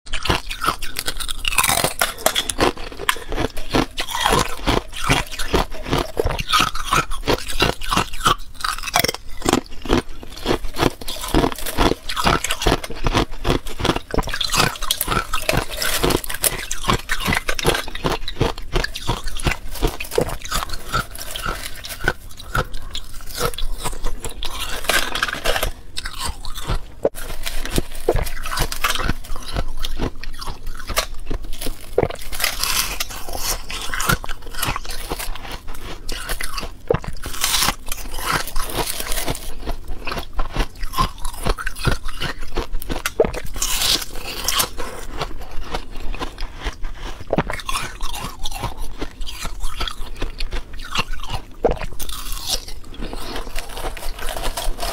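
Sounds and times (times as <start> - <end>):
ice being chewed crunching: 0.1 - 54.9.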